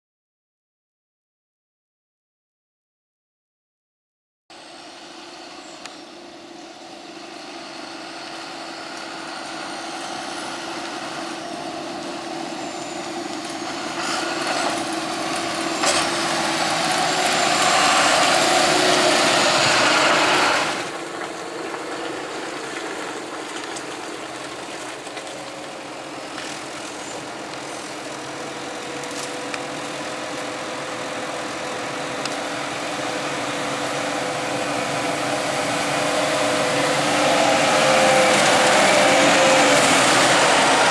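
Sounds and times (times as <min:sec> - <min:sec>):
heavy machinery engine running: 0:04.5 - 0:40.9.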